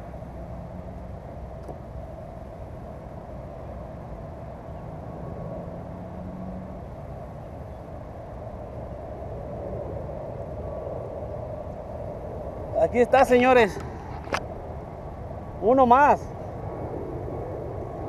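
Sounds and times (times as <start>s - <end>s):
low outdoor background rumble: 0.0s - 18.0s.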